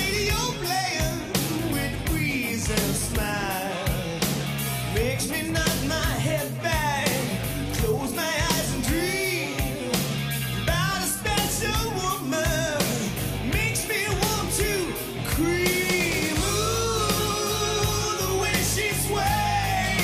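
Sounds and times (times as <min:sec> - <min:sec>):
male lead vocal singing: 0:00.0 - 0:20.0
rock band playing: 0:00.0 - 0:20.0.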